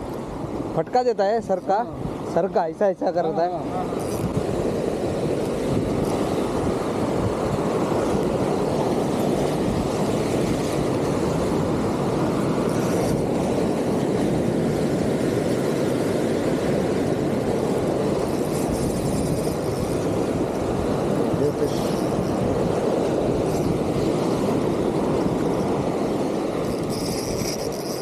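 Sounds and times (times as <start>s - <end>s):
sea surf rushing: 0.0s - 28.0s.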